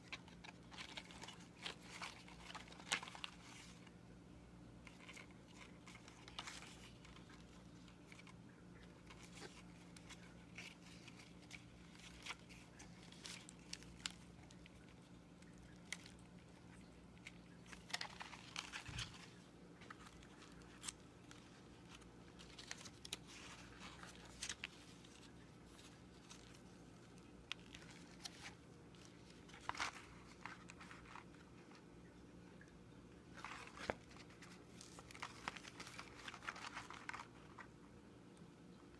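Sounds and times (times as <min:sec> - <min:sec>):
paper crinkling and rustling: 0:00.0 - 0:38.9.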